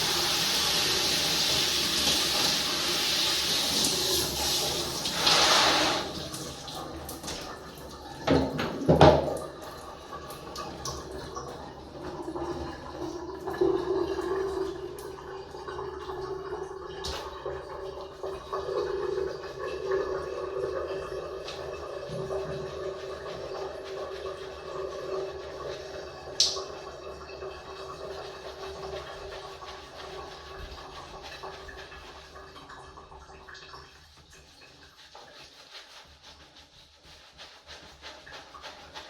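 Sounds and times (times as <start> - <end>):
tap water running: 0.0 - 39.0.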